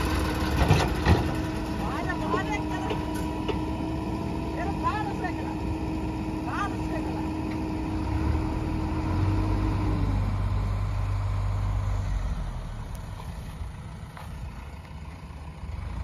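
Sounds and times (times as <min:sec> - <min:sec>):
diesel engines under load: 0:00.0 - 0:16.0.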